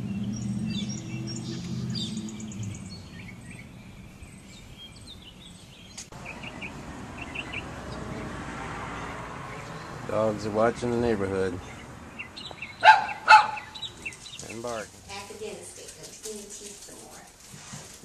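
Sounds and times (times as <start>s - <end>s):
songbirds chirping: 0.0s - 17.4s.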